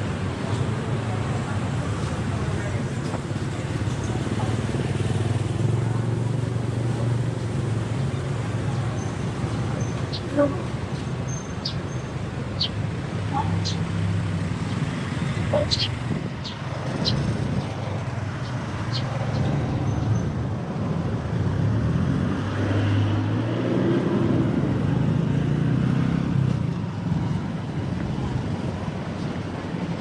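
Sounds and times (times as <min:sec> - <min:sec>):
vehicle engines running: 0:00.0 - 0:30.0
vehicle passing: 0:01.3 - 0:30.0.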